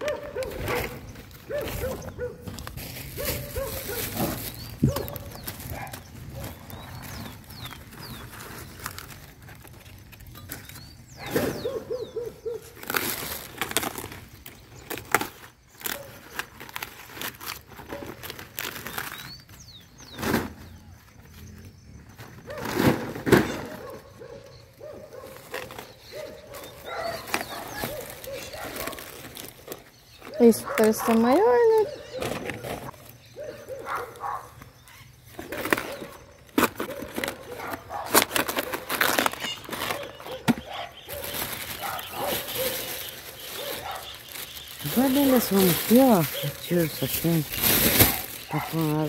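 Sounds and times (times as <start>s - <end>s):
rustling and handling noises: 0.0s - 20.6s, 22.2s - 49.0s
small birds chirping: 0.0s - 49.0s.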